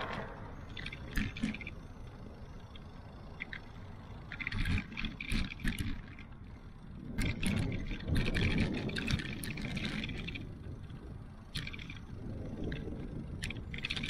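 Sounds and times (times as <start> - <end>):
sharp clicks and rattles: 0.0 - 14.0
tyre noise on asphalt: 0.0 - 14.0
wind rumbling on microphone: 0.0 - 14.0.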